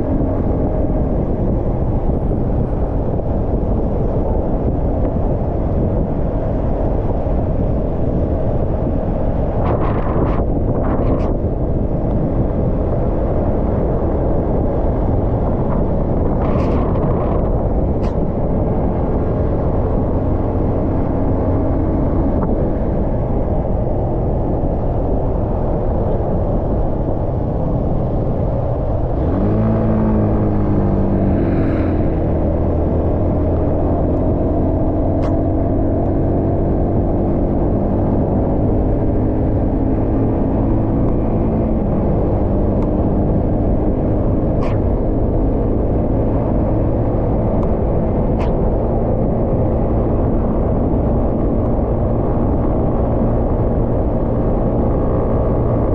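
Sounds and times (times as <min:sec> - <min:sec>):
wind rush on microphone: 0:00.0 - 0:55.9.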